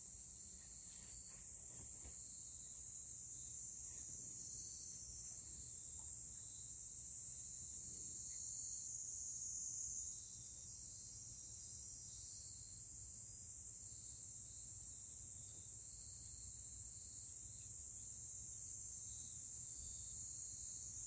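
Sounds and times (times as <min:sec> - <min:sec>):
high-pitched insect trilling: 0:00.0 - 0:21.0.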